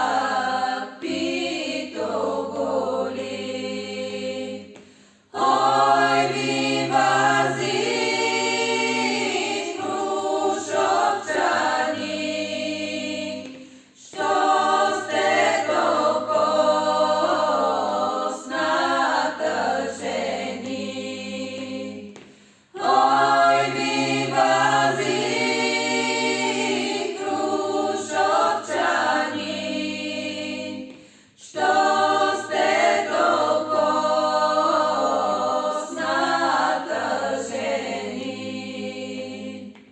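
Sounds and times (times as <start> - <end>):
group singing a cappella: 0.0 - 39.9.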